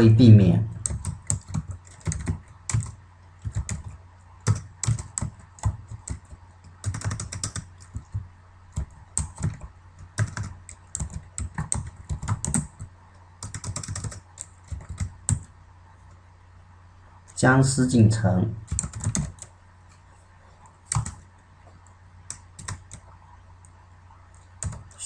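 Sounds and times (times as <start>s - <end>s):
low steady hum: 0.0s - 25.0s
computer keyboard typing: 0.8s - 16.2s, 18.6s - 19.6s, 20.6s - 25.0s.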